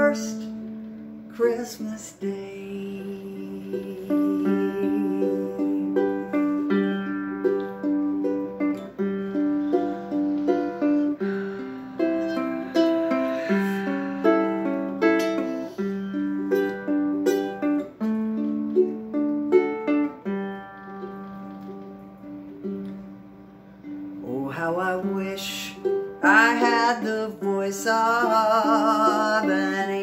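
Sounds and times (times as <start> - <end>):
ukulele playing: 0.0 - 30.0.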